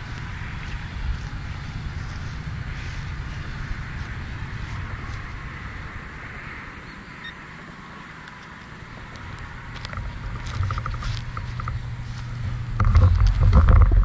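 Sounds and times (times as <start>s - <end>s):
low uneven rumble: 0.0s - 14.0s.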